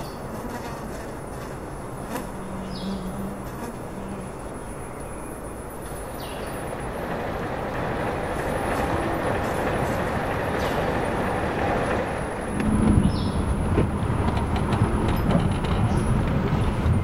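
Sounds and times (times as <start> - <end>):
minibus driving on dirt road: 0.0 - 17.0.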